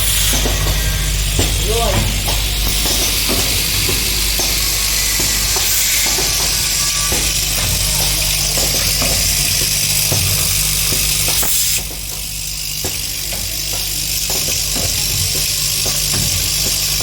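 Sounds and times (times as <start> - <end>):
low machine hum: 0.0 - 17.0
machine hissing: 0.0 - 17.0.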